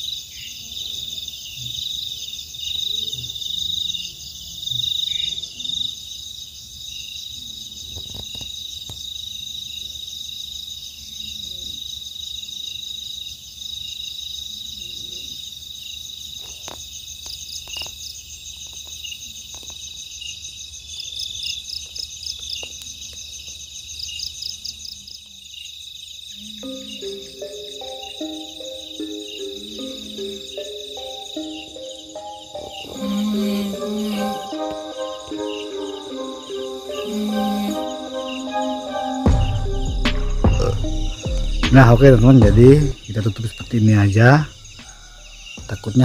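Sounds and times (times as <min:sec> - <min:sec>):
crickets trilling: 0:00.0 - 0:46.0.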